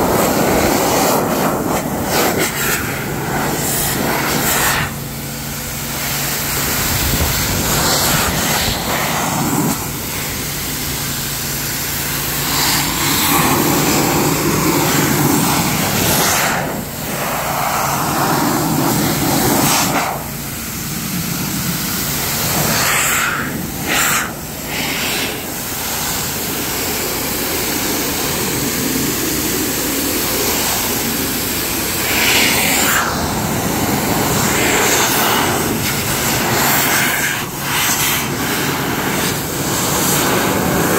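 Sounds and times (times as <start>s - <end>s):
air blower rushing: 0.0s - 40.9s.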